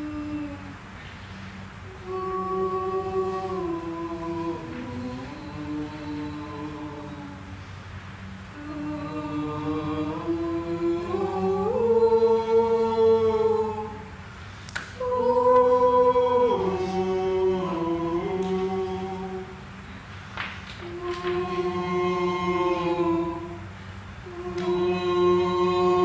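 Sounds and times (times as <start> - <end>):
low sustained drone: 0.0 - 26.0
choir singing held notes: 1.9 - 7.6, 8.5 - 14.2, 15.0 - 19.9, 20.7 - 26.0.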